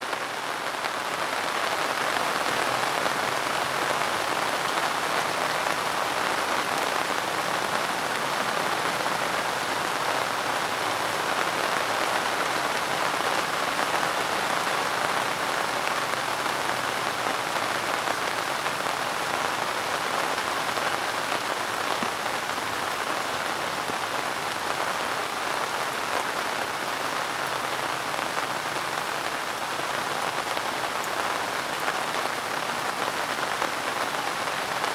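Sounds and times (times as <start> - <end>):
rain pattering on a surface: 0.0 - 34.9.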